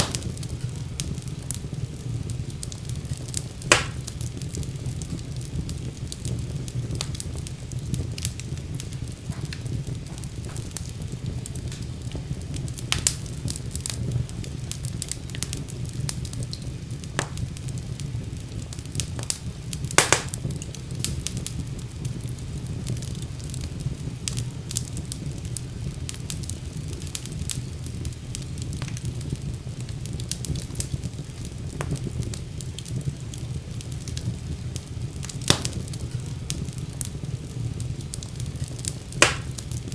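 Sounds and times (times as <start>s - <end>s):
fire crackling and popping: 0.0s - 39.9s
wood fire rumbling: 0.0s - 39.9s.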